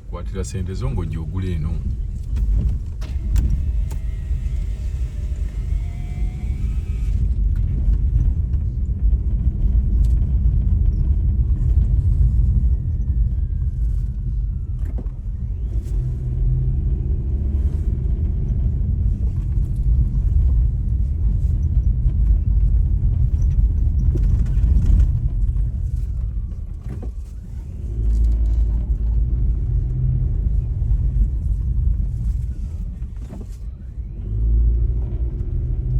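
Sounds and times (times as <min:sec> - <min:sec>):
vehicle rumbling along road: 0:00.0 - 0:35.9.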